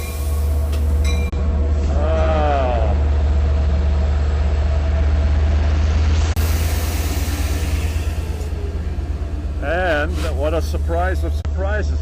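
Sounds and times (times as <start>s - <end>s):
diesel locomotive rumbling: 0.0s - 12.0s.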